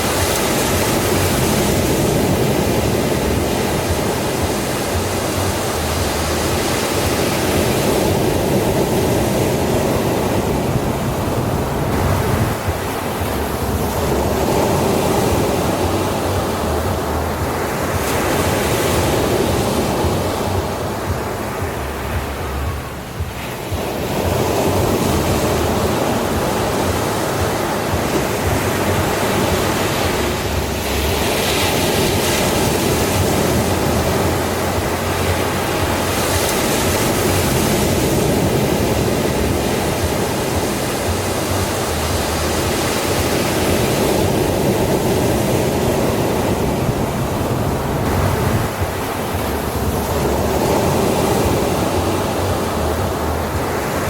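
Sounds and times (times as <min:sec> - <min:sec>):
ocean surf on sandy beach: 0:00.0 - 0:54.0.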